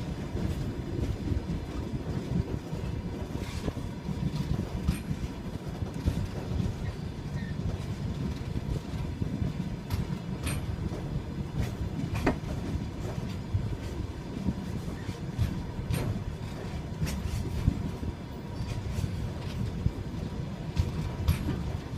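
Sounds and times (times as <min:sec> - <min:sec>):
train wheels clattering over rail joints: 0:00.0 - 0:21.9.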